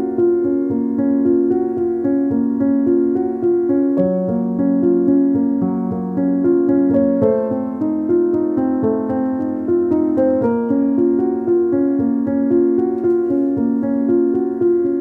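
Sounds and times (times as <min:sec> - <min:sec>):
keyboard melody: 0:00.0 - 0:15.0.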